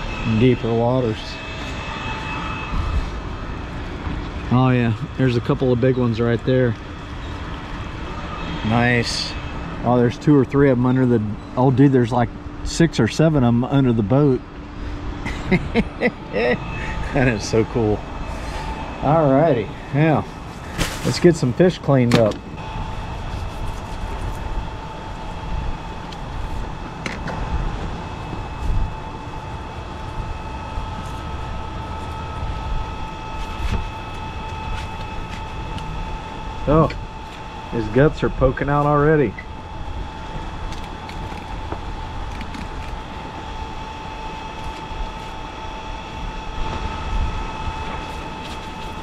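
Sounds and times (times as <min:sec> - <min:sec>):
mechanical hum: 0:00.0 - 0:49.0.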